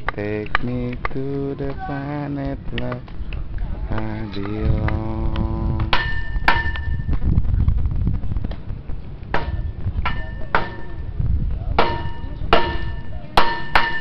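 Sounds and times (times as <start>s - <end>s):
low rumble: 0.0s - 13.3s.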